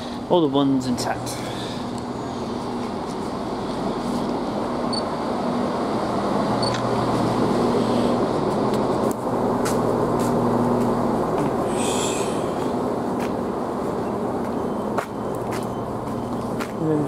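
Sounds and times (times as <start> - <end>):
diesel engine hum: 0.0 - 17.0.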